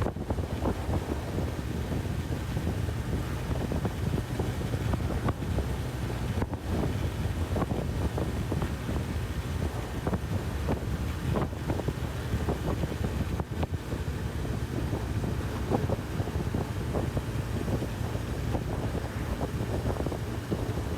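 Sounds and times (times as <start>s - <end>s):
motorcycle engine and road rumble: 0.0s - 20.9s
wind buffeting microphone: 0.0s - 20.9s.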